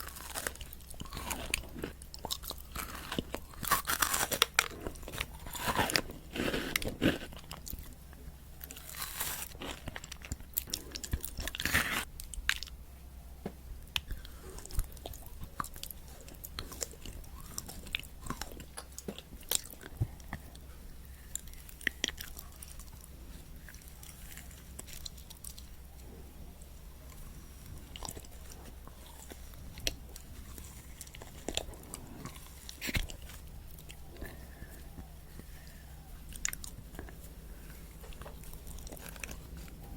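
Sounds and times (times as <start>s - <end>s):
chewing with small clicks: 0.0s - 12.8s, 13.8s - 39.9s
chocolate crunching: 0.0s - 12.8s, 13.8s - 39.9s.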